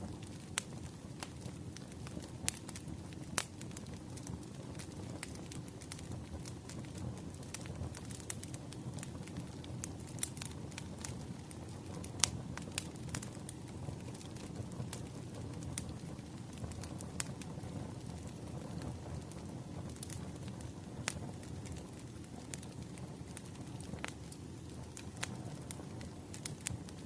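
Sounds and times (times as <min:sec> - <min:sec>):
wood fire crackling: 0:00.0 - 0:27.0
sharp pops of burning logs: 0:00.1 - 0:27.0.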